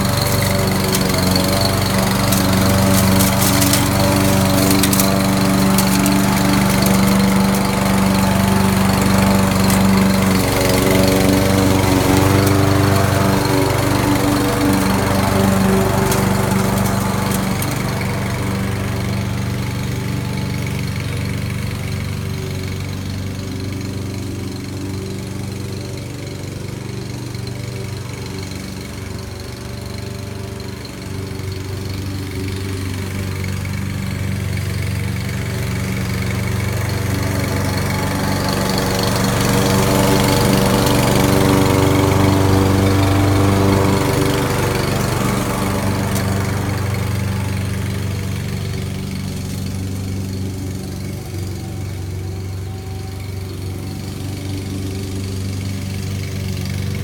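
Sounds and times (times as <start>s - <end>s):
lawn mower engine cutting grass: 0.0s - 57.0s.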